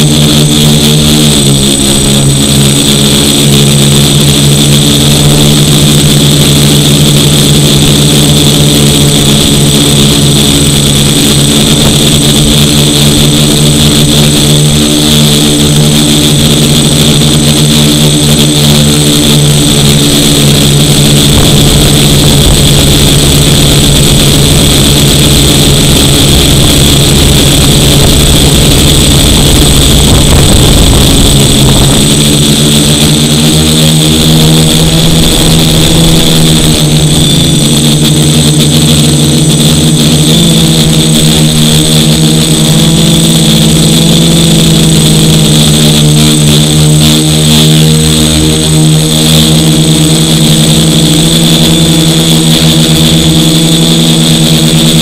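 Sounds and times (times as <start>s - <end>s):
heavy low rumble: 0.0s - 46.5s
quadcopter propellers buzzing: 0.0s - 55.0s.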